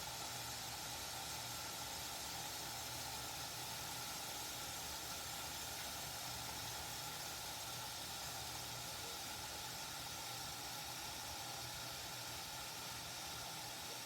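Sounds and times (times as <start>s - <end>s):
electric kettle heating water: 0.0s - 14.0s.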